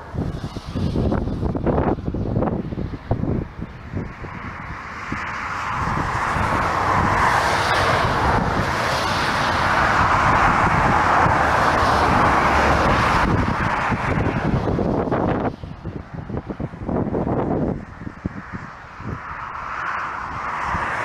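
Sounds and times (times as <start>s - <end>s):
airliner engines roaring: 0.0s - 21.0s
wind buffeting on microphone: 0.0s - 21.0s.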